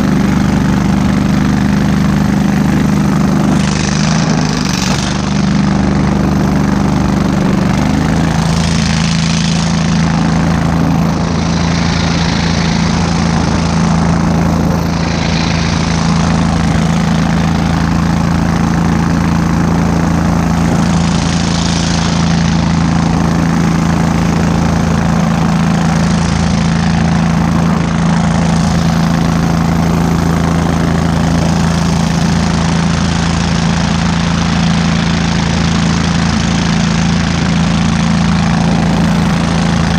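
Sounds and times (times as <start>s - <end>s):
boat motor running under load: 0.0s - 39.9s.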